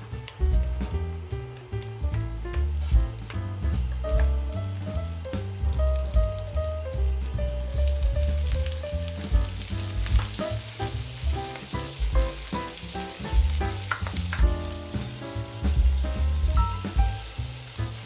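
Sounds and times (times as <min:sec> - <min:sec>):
background music with bass beat: 0:00.0 - 0:17.5
butter sizzling in a frying pan: 0:00.0 - 0:18.0.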